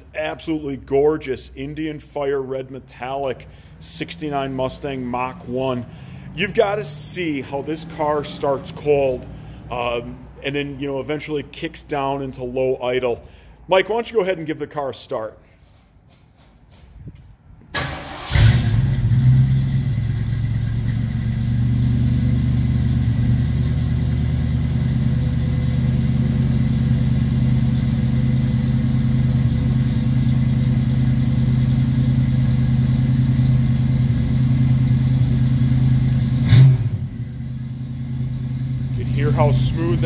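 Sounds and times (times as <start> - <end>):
car engine starting and idling: 0.0 - 11.7, 17.6 - 40.0.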